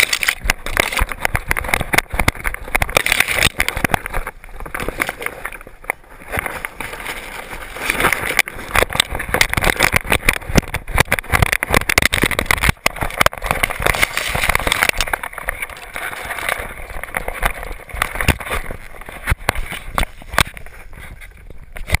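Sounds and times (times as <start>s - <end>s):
camera rattling in mount: 0.0s - 22.0s
rapid clicks: 0.0s - 22.0s.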